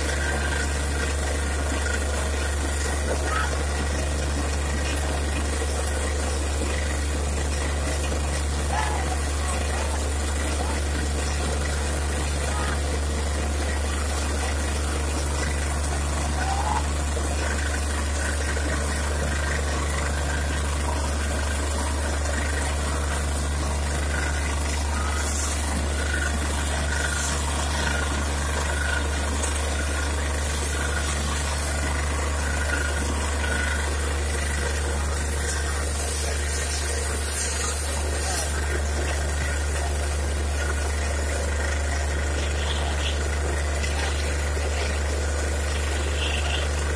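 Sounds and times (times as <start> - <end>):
drilling rig engine drone: 0.0 - 46.9
water gushing: 0.0 - 46.9.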